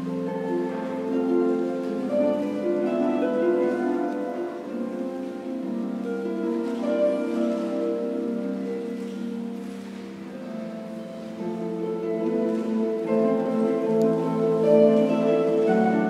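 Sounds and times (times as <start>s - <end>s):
harps playing classical music: 0.0s - 16.0s.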